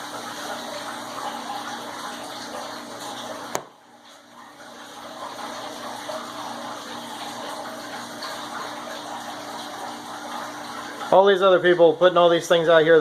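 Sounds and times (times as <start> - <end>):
fish tank water splashing: 0.0 - 13.0.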